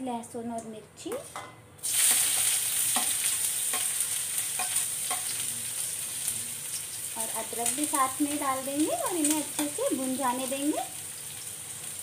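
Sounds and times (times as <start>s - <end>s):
vegetables sizzling in hot oil: 1.8s - 12.0s.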